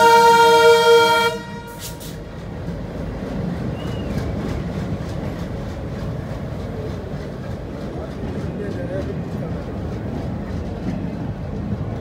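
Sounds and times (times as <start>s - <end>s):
train wheels rumbling on rail: 0.0s - 12.0s
wheels clicking over rail joints: 1.7s - 12.0s.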